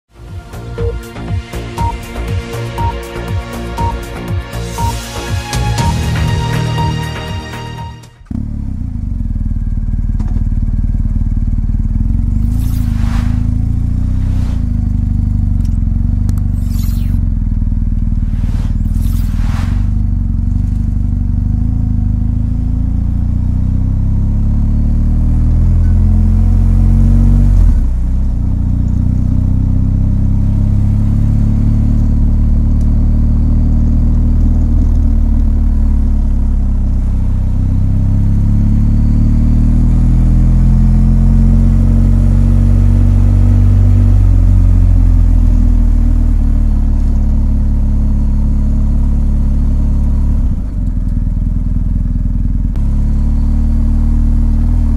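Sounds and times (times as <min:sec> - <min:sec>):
motorcycle engine revving: 0:08.2 - 0:54.9.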